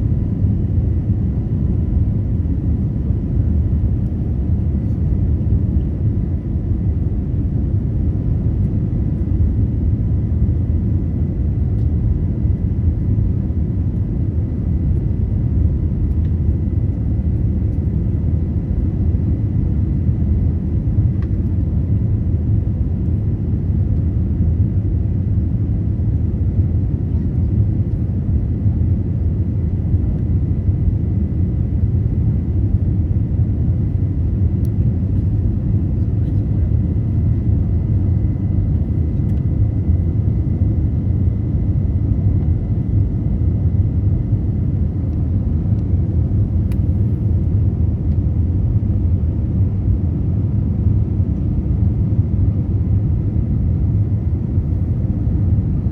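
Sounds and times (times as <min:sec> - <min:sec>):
jet engines rumbling with whine: 0:00.0 - 0:55.9.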